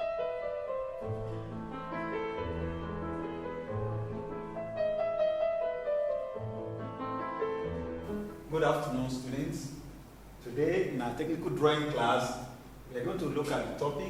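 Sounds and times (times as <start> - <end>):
piano background music: 0.0 - 14.0.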